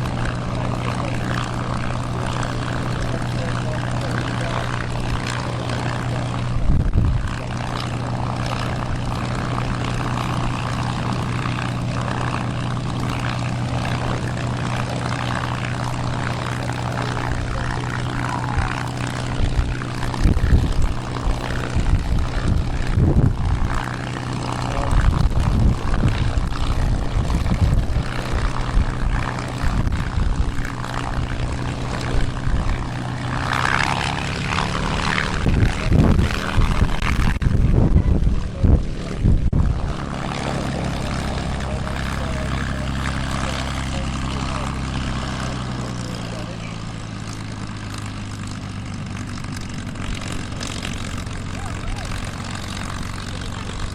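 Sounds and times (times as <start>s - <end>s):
propeller aircraft droning: 0.0s - 53.9s
wind buffeting microphone: 0.0s - 53.9s.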